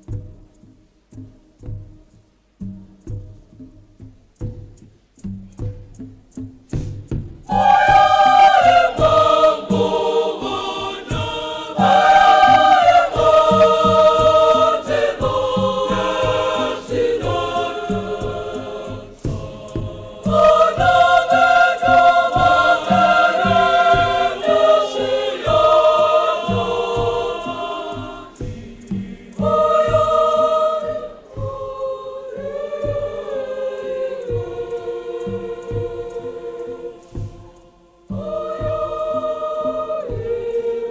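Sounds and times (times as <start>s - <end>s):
steady percussive beat: 0.0s - 40.9s
girls' choir singing: 7.5s - 40.9s.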